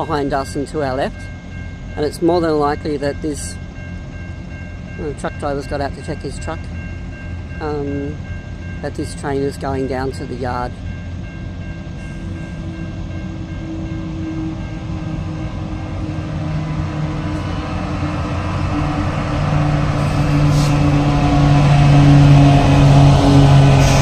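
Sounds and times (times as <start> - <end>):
diesel locomotive engines droning: 0.0 - 24.0.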